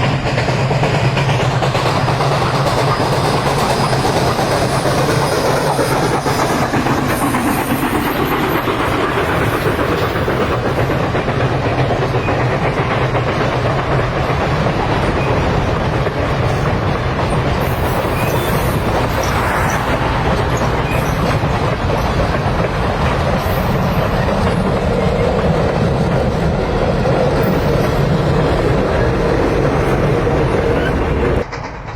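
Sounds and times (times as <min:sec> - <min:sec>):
train rumbling on track: 0:00.0 - 0:31.9.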